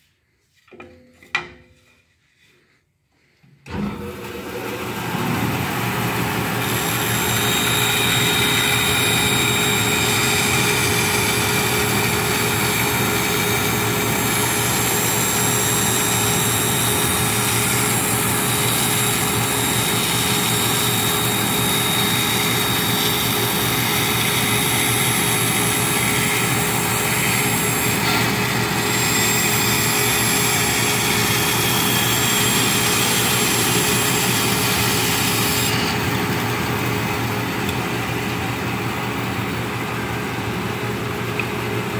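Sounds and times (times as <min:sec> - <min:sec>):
band saw cutting wood: 0:04.0 - 0:39.5.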